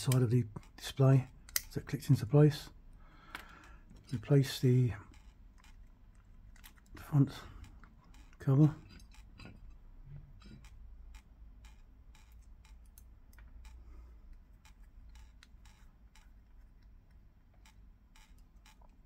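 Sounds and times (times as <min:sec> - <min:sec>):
small plastic parts clicking: 0:00.0 - 0:02.0, 0:03.2 - 0:19.0
low background hum: 0:00.0 - 0:19.0.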